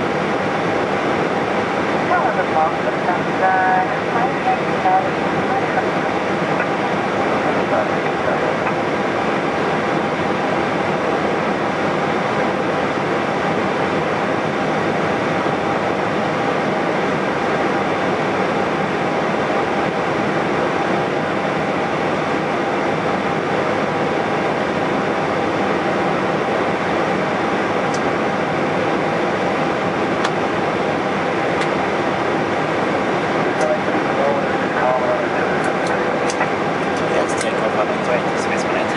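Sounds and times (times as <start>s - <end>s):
aircraft engines idling: 0.0s - 38.9s
fans humming and hissing: 0.0s - 38.9s.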